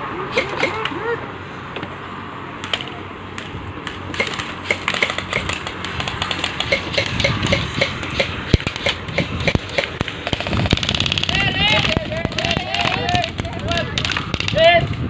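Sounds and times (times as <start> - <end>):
airsoft guns firing: 0.3 - 0.9, 2.6 - 14.7.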